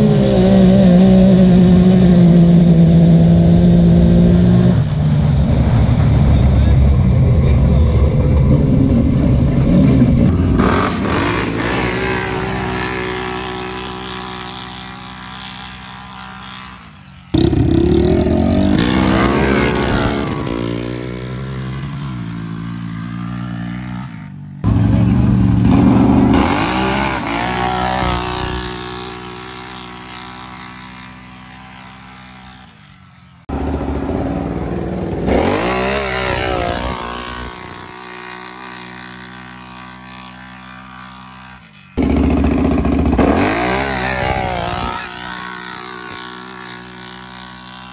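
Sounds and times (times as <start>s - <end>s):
atv engines racing at full throttle: 0.0s - 47.9s.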